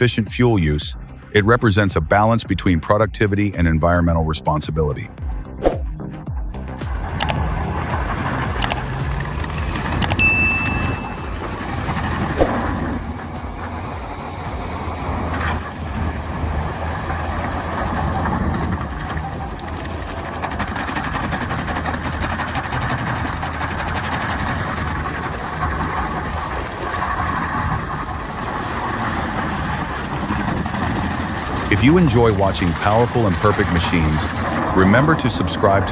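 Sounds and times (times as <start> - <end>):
heavy machine engine drone: 5.4 - 35.9
constant noisy wash: 6.7 - 35.9.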